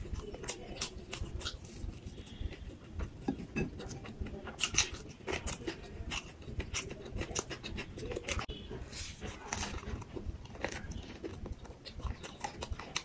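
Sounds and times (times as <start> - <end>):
chewing crispy fried food: 0.0 - 13.0.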